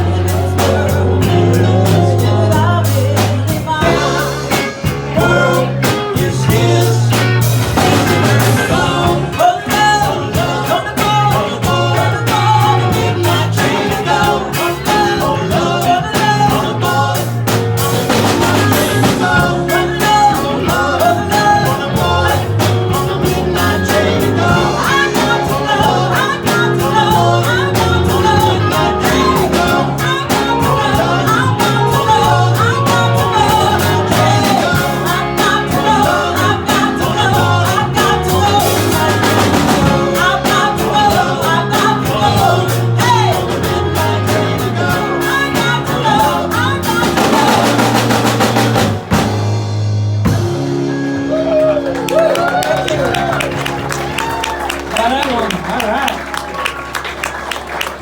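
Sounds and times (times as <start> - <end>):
person singing: 0.0 - 48.8
live band playing: 0.0 - 58.0.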